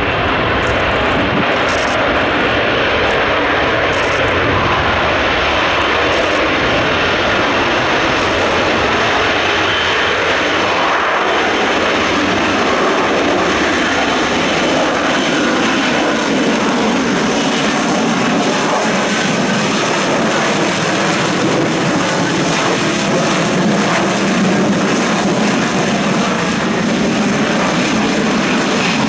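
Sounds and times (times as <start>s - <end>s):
loud jet engine noise: 0.0s - 29.0s.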